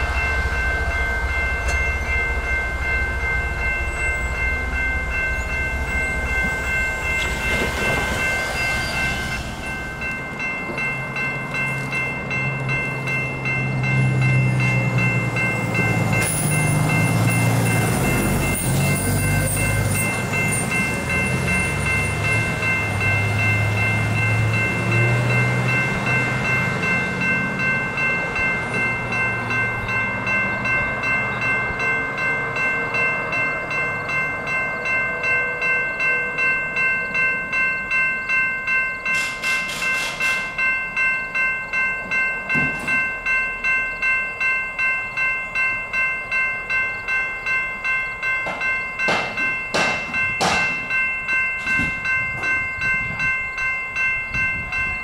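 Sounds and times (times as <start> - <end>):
railroad crossing bells ringing: 0.0 - 55.0.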